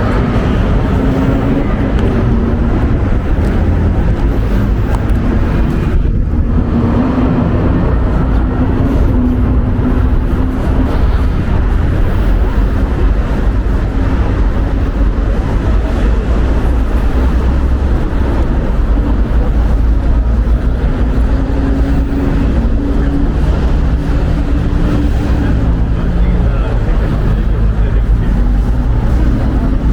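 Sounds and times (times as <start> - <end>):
engine hum: 0.0 - 29.9
street traffic: 0.0 - 29.9
wind buffeting microphone: 0.0 - 29.9.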